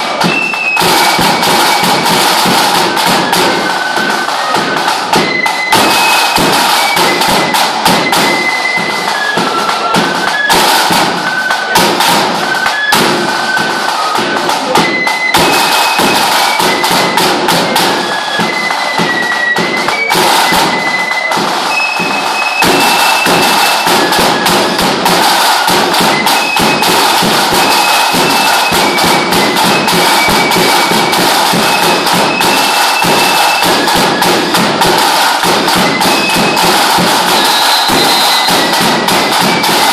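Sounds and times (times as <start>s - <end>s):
drum beaten in fast rattle: 0.0s - 39.9s
fife playing a tune: 0.0s - 39.9s.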